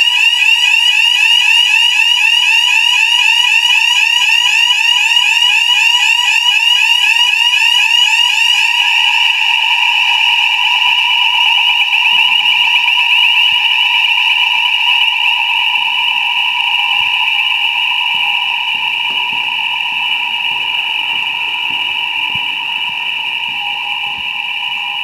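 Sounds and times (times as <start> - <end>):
fire alarm warbling tone: 0.0 - 25.0.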